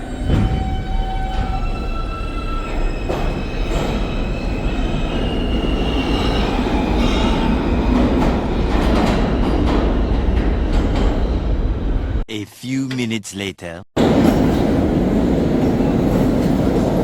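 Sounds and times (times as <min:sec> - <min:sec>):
train rumbling on rails: 0:00.0 - 0:12.2, 0:14.0 - 0:17.0.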